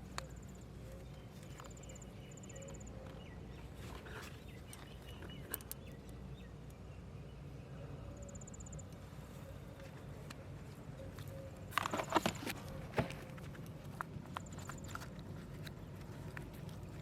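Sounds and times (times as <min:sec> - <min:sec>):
low outdoor background noise: 0:00.0 - 0:17.0.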